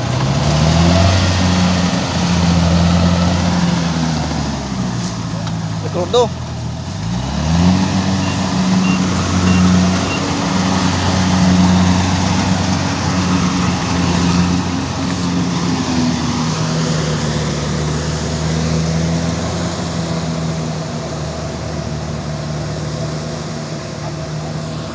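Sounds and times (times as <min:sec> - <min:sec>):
combine harvester diesel engine: 0:00.0 - 0:24.9.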